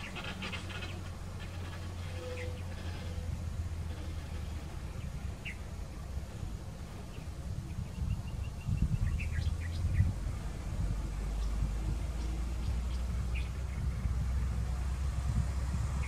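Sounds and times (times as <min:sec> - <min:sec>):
small birds chirping: 0:00.0 - 0:14.8
diesel engines rumbling: 0:00.0 - 0:16.0.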